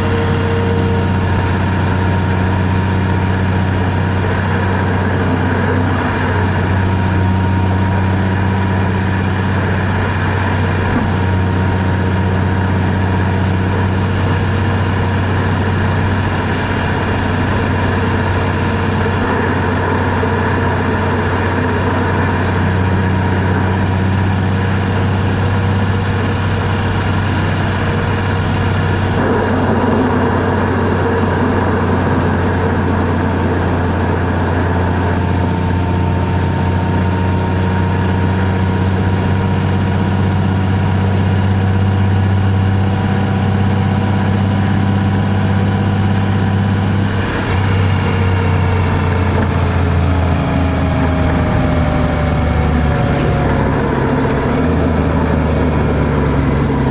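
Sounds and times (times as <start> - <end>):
road noise: 0.0 - 56.9
vehicle engine running: 0.0 - 56.9.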